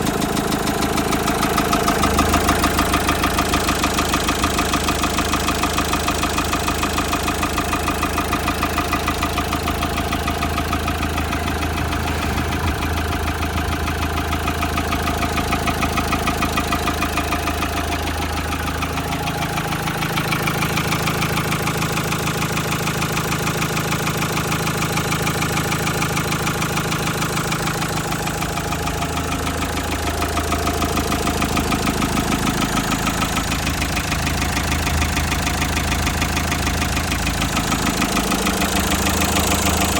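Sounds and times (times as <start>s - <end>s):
car engine idling: 0.0s - 39.9s
fast engine knock: 0.0s - 39.9s.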